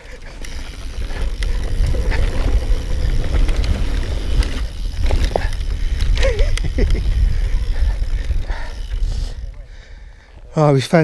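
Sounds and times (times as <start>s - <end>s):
tyres rolling on dirt: 0.0s - 9.1s
wind buffeting microphone: 0.0s - 10.5s
bike clicks and rattles: 0.0s - 11.0s.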